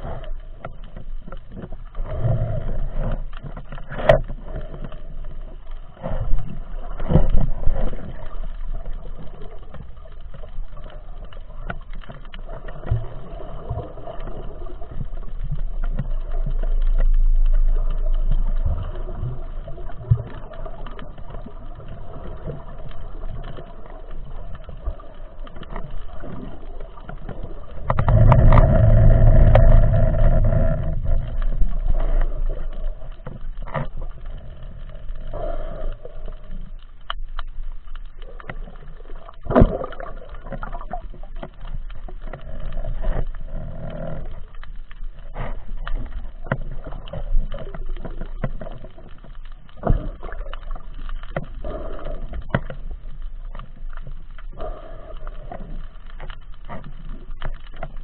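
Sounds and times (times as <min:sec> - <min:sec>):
low underwater hum: 0:00.0 - 0:58.0
rushing underwater rumble: 0:00.0 - 0:58.0
underwater knocks and clicks: 0:00.0 - 0:58.0.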